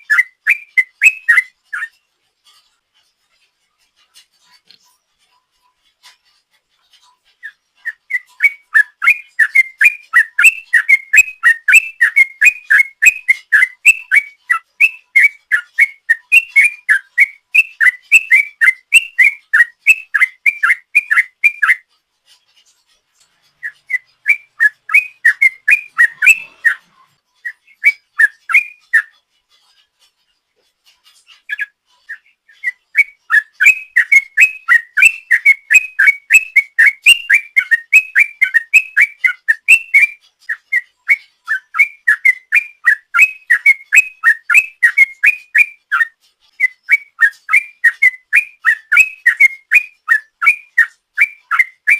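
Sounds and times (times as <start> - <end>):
bird singing whistled notes: 0.0 - 2.6, 5.9 - 22.0, 23.4 - 30.1, 31.1 - 51.9.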